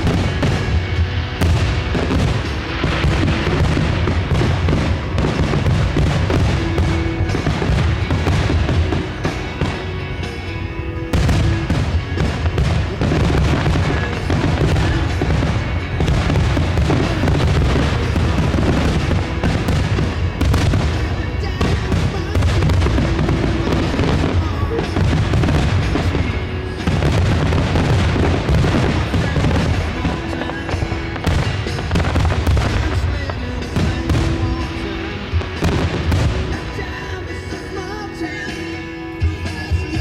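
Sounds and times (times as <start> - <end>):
fireworks booming: 0.0 - 40.0
fireworks crackling: 0.0 - 40.0.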